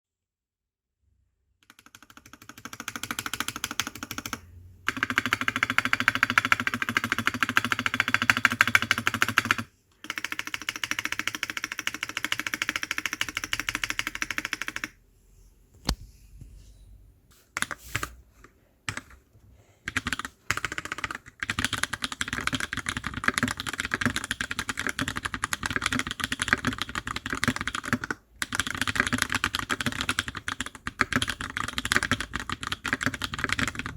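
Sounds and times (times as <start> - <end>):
mechanical keyboard typing: 1.6 - 15.0, 18.9 - 19.2, 19.9 - 33.9.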